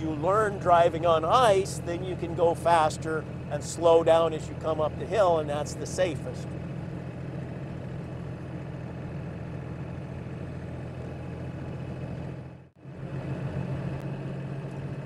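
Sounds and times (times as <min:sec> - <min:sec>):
car engine and tyres droning: 0:00.0 - 0:15.0.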